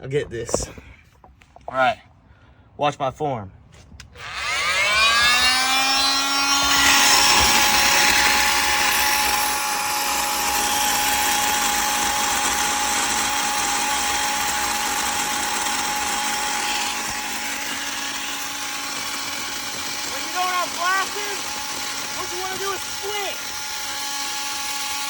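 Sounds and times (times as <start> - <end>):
rotary cutting tool whine: 4.1 - 25.0.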